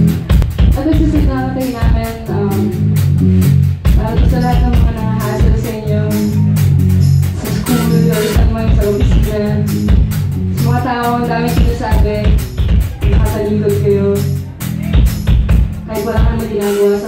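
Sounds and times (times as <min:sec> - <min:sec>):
live band playing: 0:00.0 - 0:17.0
steady drum beat: 0:00.0 - 0:17.0
sustained bass notes: 0:00.0 - 0:17.0.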